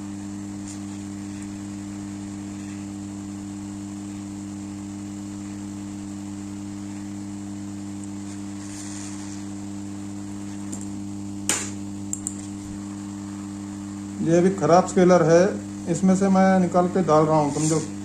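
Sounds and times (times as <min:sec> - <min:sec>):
hot air gun blower humming: 0:00.0 - 0:18.0.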